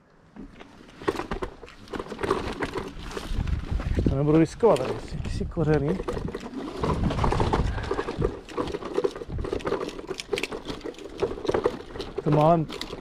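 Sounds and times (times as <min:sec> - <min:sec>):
kick scooter rattling over rough ground: 0:00.3 - 0:13.0.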